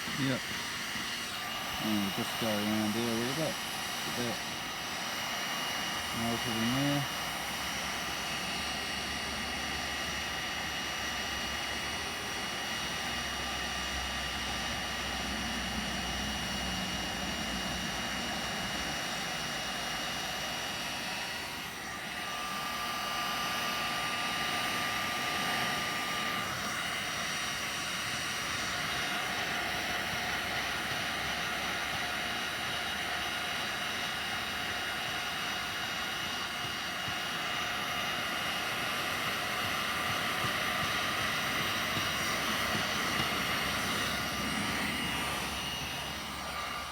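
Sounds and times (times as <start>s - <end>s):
heat gun blowing with whine: 0.0s - 46.9s.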